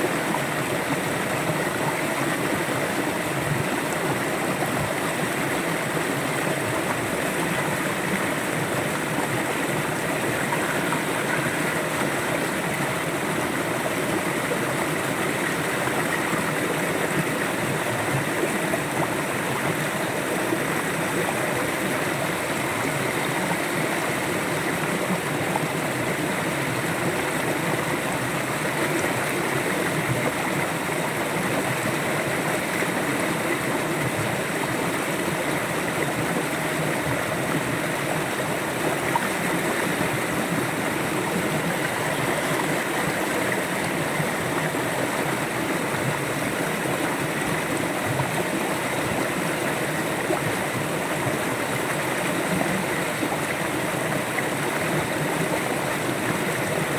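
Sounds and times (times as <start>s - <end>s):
river water flowing over rocks: 0.0s - 56.9s.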